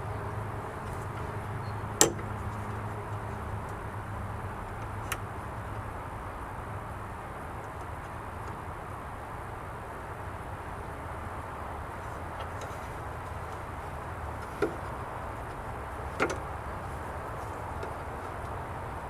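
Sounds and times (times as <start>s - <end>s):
steady background rumble: 0.0s - 19.0s.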